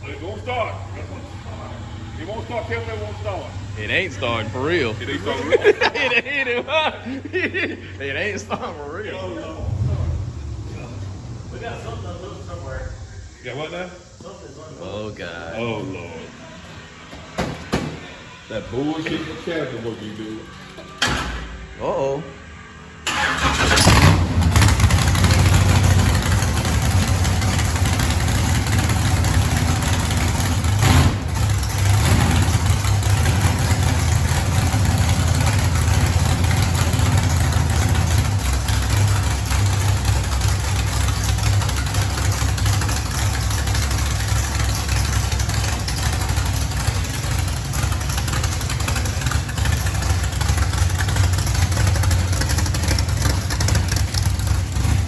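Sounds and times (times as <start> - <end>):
vehicle engine starting and idling: 0.0 - 55.0.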